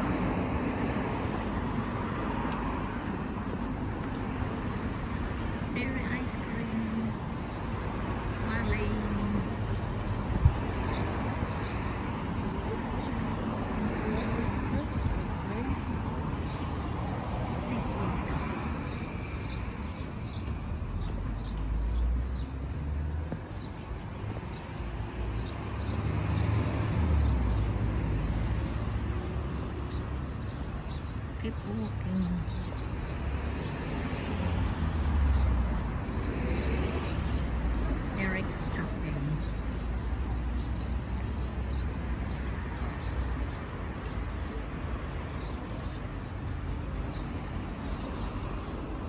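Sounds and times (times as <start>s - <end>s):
small birds chirping: 0.8s - 49.0s.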